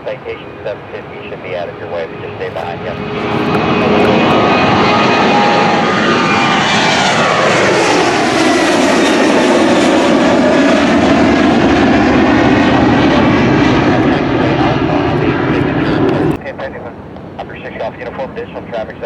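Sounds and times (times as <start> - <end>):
airplane engines passing: 0.0 - 19.0.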